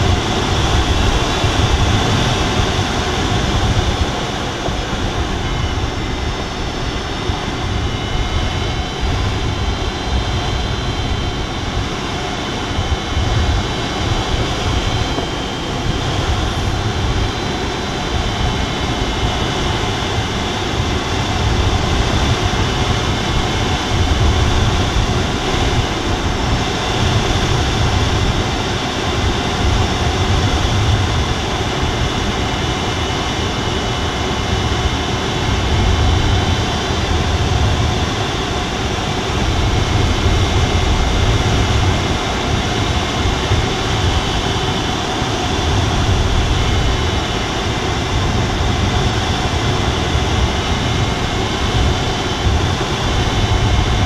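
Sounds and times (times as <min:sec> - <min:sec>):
air rushing over glider canopy: 0:00.0 - 0:54.0.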